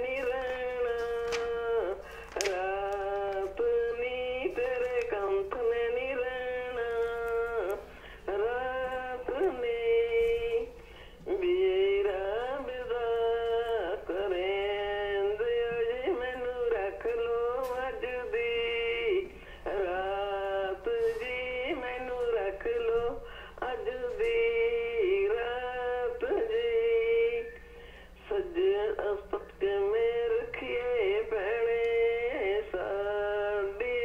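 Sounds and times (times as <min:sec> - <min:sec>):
person singing over phone: 0:00.0 - 0:34.0.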